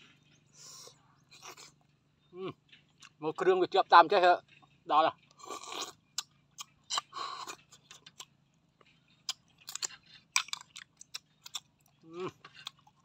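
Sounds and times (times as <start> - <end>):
chewing: 0.0 - 2.0, 2.7 - 3.2, 4.5 - 13.0.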